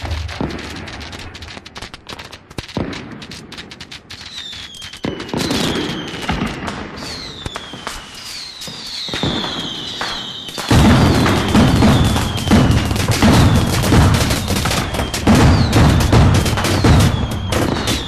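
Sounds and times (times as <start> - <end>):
fireworks crackling and popping: 0.0 - 18.0
heavy firework bangs: 0.0 - 18.0
firework whistles falling: 2.7 - 18.0.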